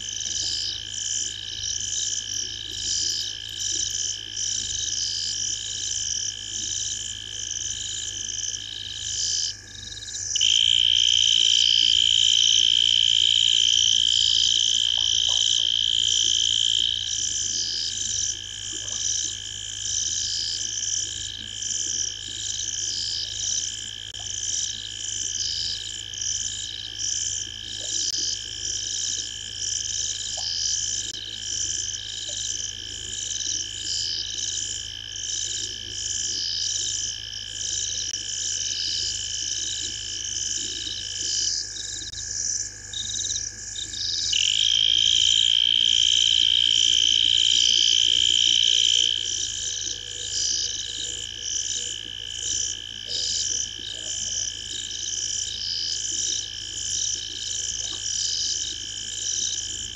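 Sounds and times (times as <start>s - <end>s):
frogs pulsing chirp: 0.0s - 59.9s
steady high insect trill: 0.0s - 59.9s.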